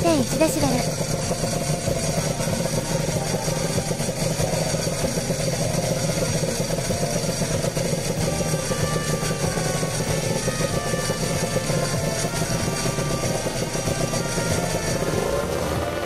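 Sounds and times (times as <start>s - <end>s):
two-stroke motorcycle idling: 0.0s - 16.0s.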